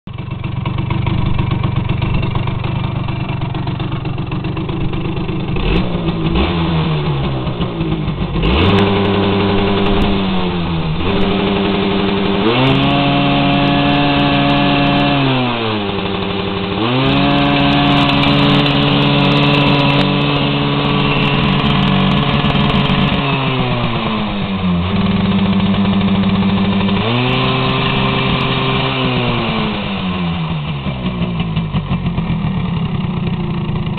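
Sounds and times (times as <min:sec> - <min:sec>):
two-stroke scooter engine revving: 0:00.1 - 0:33.9.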